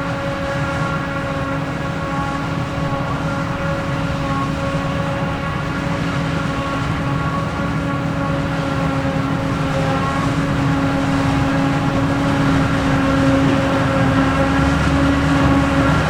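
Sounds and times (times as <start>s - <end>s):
machinery droning hum: 0.0s - 16.0s.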